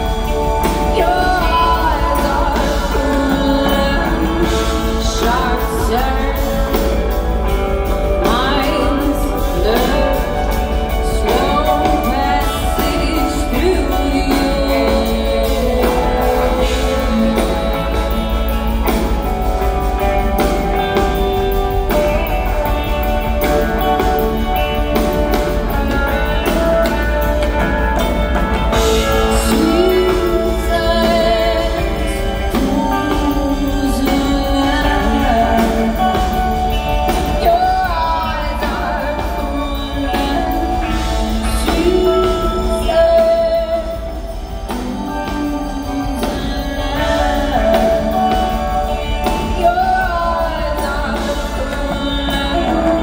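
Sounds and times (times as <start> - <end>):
drums with steady beat: 0.0 - 53.0
electric guitar: 0.0 - 53.0
woman singing: 0.0 - 53.0.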